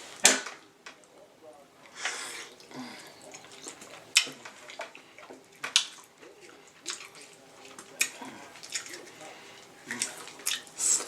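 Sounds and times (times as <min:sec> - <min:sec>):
wet sloppy eating: 0:01.0 - 0:11.0.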